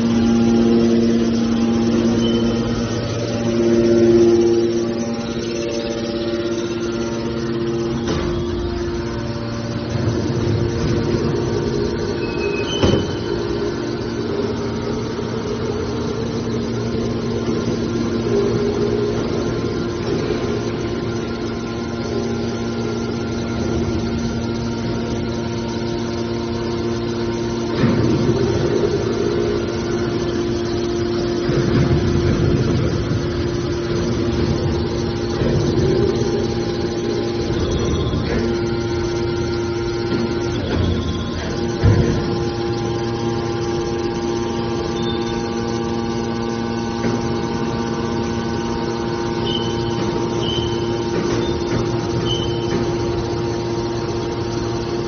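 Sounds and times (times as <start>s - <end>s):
hydraulic baler humming: 0.0s - 55.0s.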